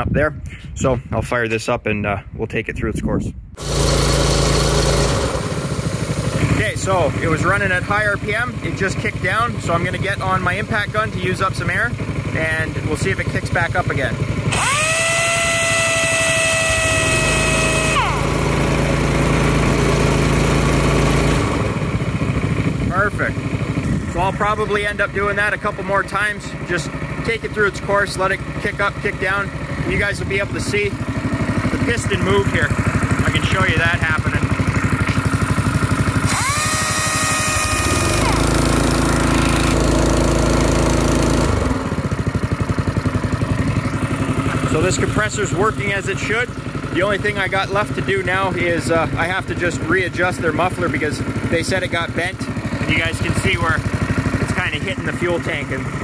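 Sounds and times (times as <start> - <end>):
air impact wrench whine: 3.6 - 56.0
compressor engine running: 3.6 - 56.0.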